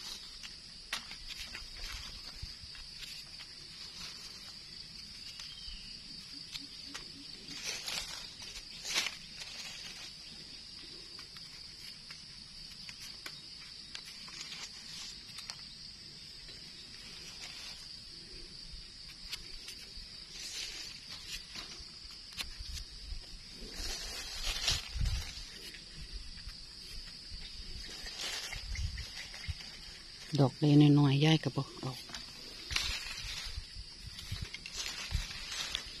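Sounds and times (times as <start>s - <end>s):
high insect drone: 0.0s - 36.0s
rustling dry leaf litter: 0.0s - 36.0s.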